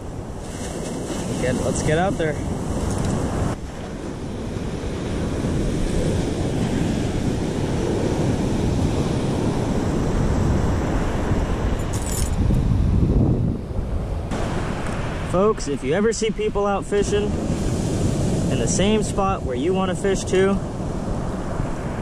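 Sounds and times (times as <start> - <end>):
ocean surf on beach: 0.0 - 22.0
wind rumbling on microphone: 0.0 - 22.0.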